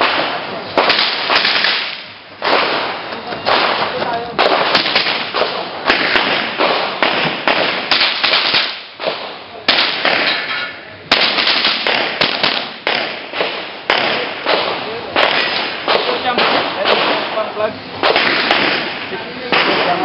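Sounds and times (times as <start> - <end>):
rifle shots: 0.0 - 10.5, 11.1 - 20.0.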